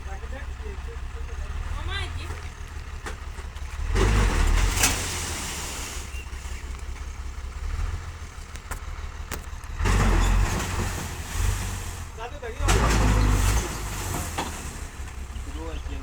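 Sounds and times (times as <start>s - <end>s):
low traffic rumble: 0.0s - 16.0s
vehicles passing on a road: 0.0s - 16.0s.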